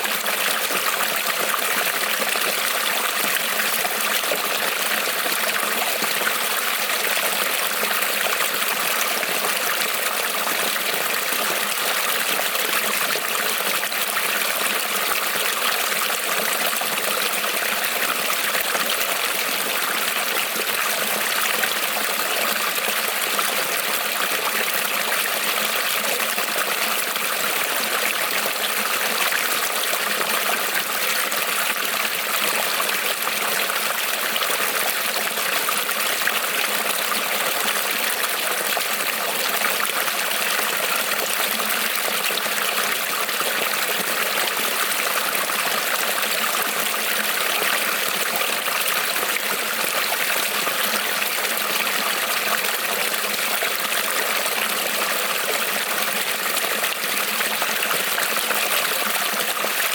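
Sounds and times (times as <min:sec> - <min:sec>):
creek trickling over stones: 0:00.0 - 0:59.9.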